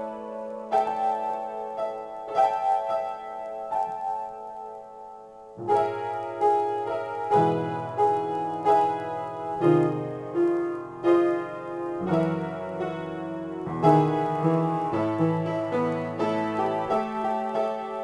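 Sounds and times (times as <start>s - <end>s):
piano chords and bass notes: 0.0s - 18.0s.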